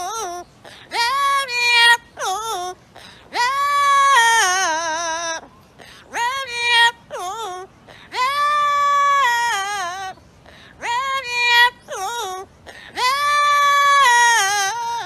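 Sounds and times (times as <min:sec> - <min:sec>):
parrot singing: 0:00.0 - 0:15.0.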